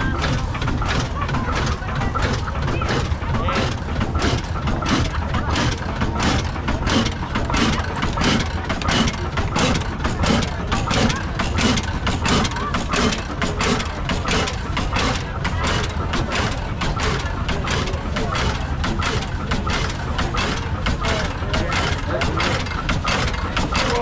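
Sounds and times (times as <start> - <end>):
oil engine knocking steadily: 0.0 - 24.0.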